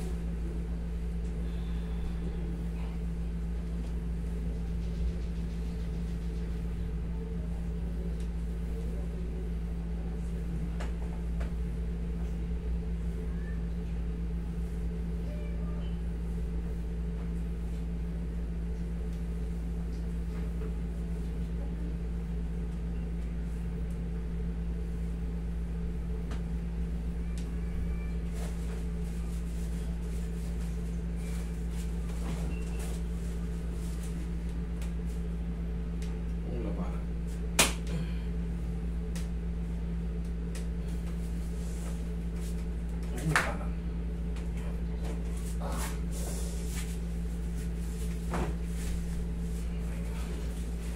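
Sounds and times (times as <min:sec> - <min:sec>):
air conditioner humming: 0:00.0 - 0:50.9.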